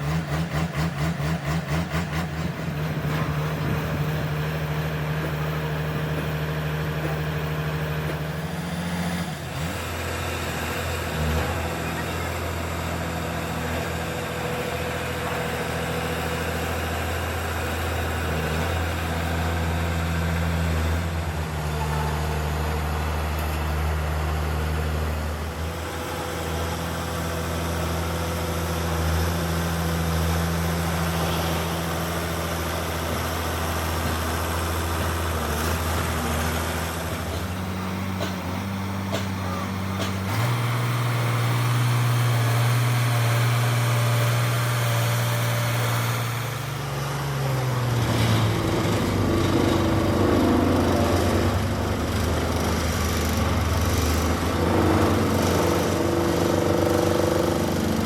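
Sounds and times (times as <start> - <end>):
road roller diesel engine: 0.0 - 58.0.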